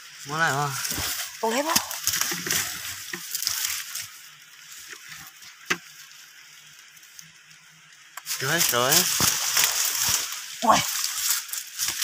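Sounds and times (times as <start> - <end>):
earth crumbling and crackling: 0.0 - 12.0.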